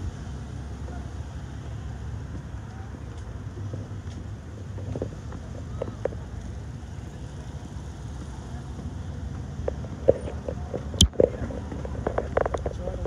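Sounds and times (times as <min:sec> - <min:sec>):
traffic noise: 0:00.0 - 0:13.0
faint voices: 0:00.7 - 0:13.0.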